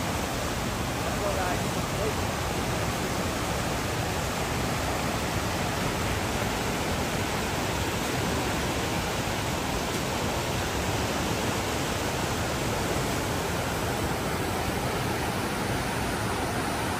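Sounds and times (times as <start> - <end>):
water rushing over rapids: 0.0 - 16.9.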